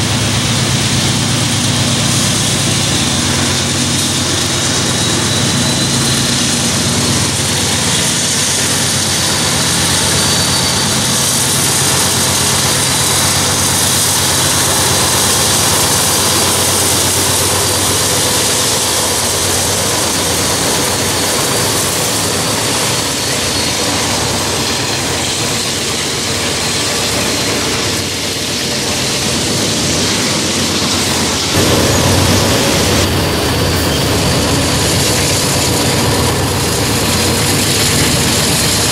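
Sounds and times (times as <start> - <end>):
locomotive engine drone: 0.0 - 38.9
steel wheels rumbling on rail: 0.0 - 38.9.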